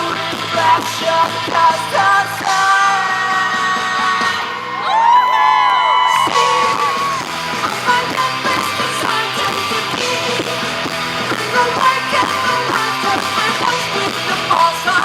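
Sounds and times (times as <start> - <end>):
rock band playing loudly: 0.0 - 15.0.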